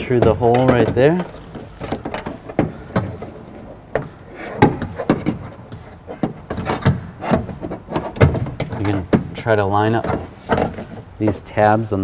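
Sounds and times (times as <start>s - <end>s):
window regulator knocking and clicking: 0.0s - 9.4s, 10.0s - 11.4s.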